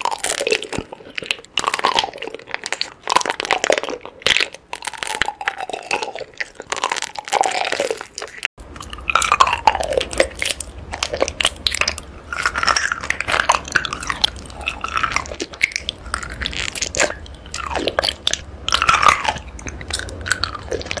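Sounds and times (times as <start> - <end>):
chewing crunchy honeycomb: 0.0 - 21.0.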